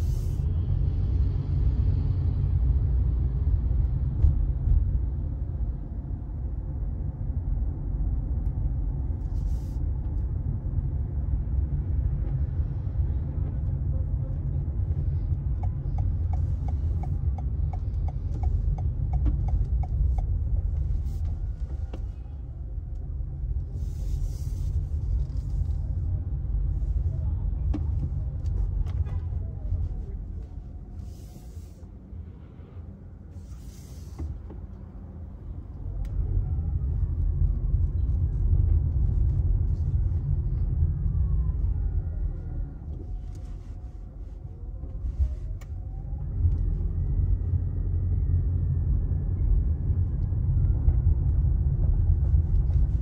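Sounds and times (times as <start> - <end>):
vehicle rumbling: 0.0 - 53.0.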